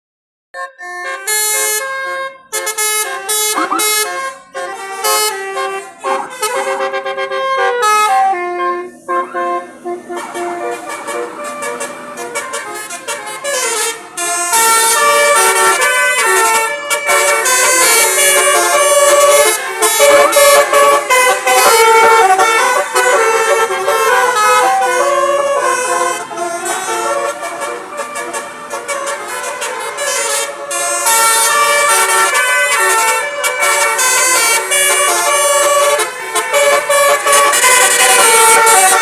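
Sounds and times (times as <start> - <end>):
musical bus horn playing a tune: 0.6 - 39.0.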